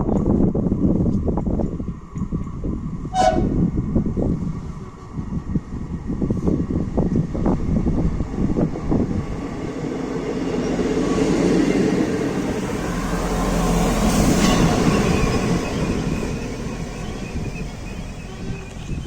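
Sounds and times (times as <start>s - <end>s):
diesel train passing on rails: 0.0s - 19.0s.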